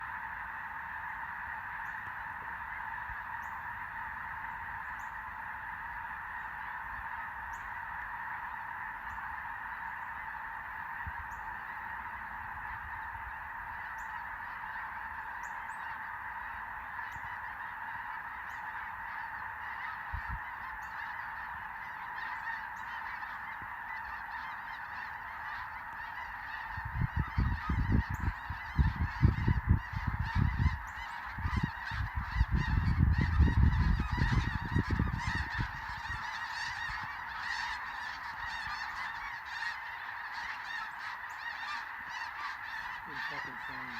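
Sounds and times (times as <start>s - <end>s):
geese honking: 0.0s - 43.9s.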